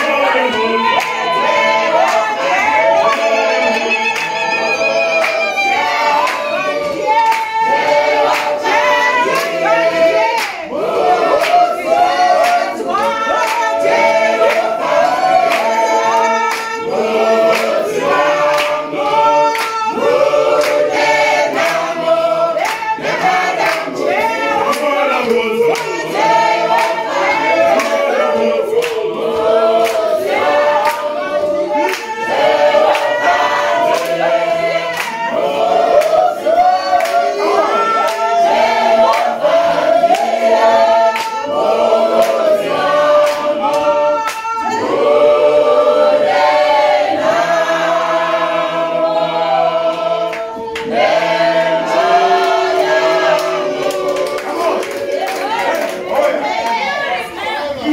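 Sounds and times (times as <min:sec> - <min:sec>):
choir singing a hymn: 0:00.0 - 0:57.9
rhythmic hand clapping: 0:00.0 - 0:57.9.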